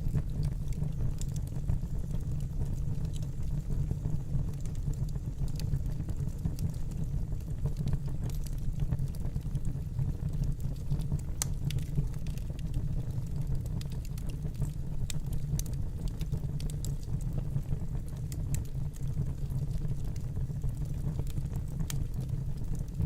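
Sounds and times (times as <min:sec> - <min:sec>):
fire crackling and popping: 0:00.0 - 0:23.0
rumble of flames: 0:00.0 - 0:23.0.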